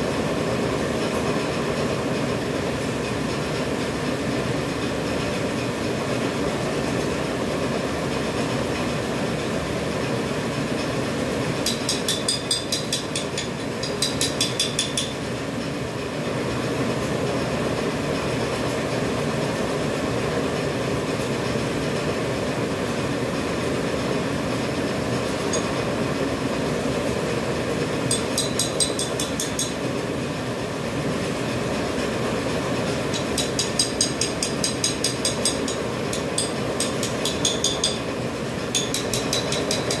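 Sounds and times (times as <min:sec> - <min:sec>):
machine mechanical hum: 0:00.0 - 0:40.0.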